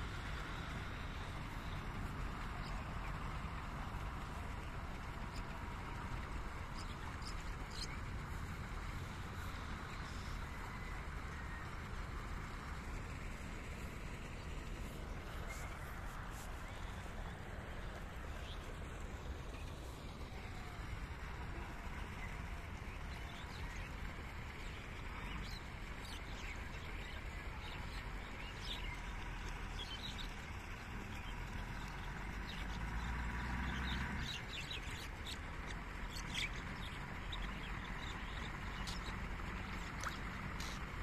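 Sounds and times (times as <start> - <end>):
small birds chirping: 0.0 - 11.6, 13.8 - 41.0
low outdoor rumble: 0.0 - 41.0.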